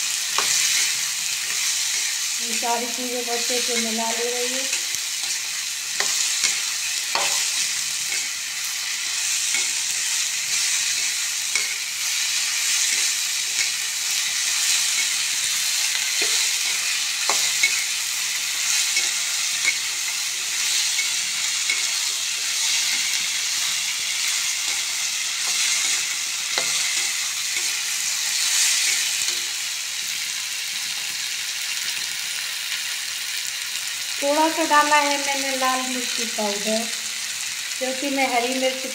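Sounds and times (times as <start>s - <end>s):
vegetables sizzling in a pan: 0.0s - 38.9s.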